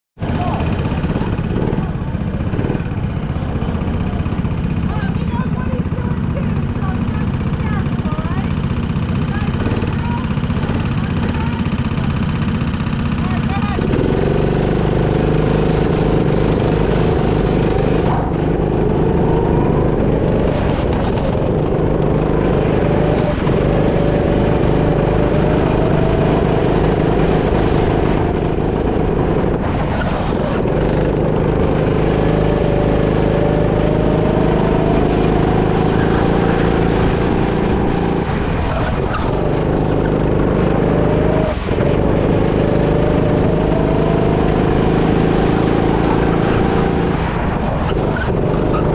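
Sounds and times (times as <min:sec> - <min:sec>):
go-kart engine running hard: 0:00.2 - 0:48.9.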